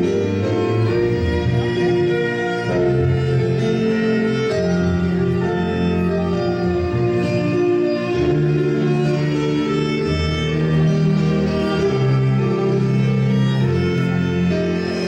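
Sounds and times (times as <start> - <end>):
violins bowing a melody: 0.0 - 15.0.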